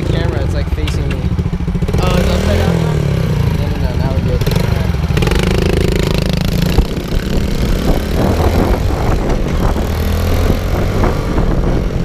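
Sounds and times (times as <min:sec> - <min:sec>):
rough rushing noise: 0:00.0 - 0:12.0
small motorcycle engine running: 0:00.0 - 0:12.0.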